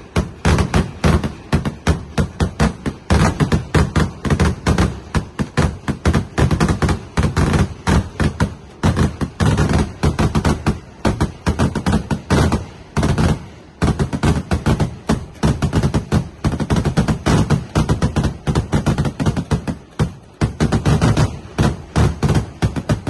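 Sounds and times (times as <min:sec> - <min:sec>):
fireworks banging: 0:00.0 - 0:23.0.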